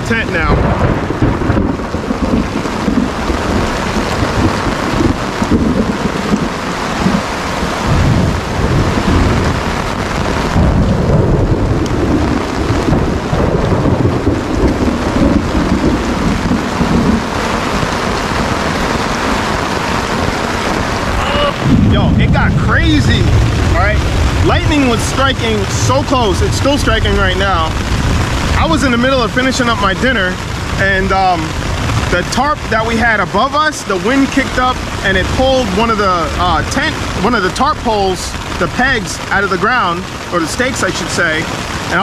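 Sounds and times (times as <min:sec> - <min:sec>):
heavy rain: 0:00.0 - 0:42.0
thunder rumbling: 0:00.0 - 0:42.0.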